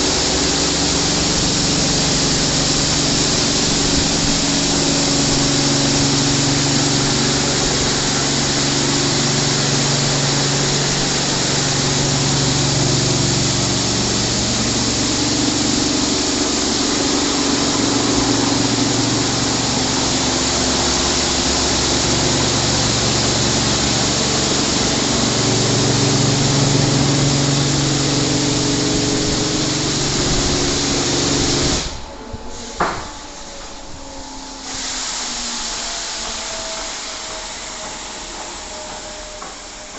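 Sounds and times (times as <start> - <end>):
water jets hissing: 0.0 - 32.1
low machine hum: 0.0 - 39.9.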